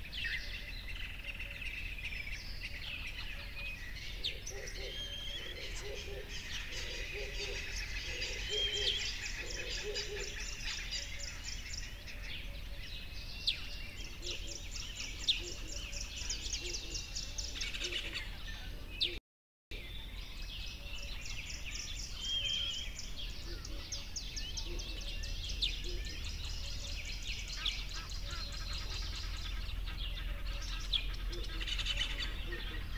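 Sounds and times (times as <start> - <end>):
birds chirping and trilling: 0.0 - 32.9.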